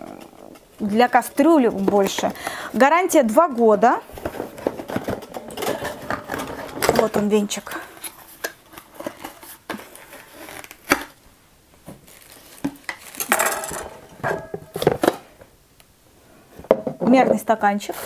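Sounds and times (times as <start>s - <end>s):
cardboard packaging rustling: 0.0s - 11.2s, 11.8s - 15.4s.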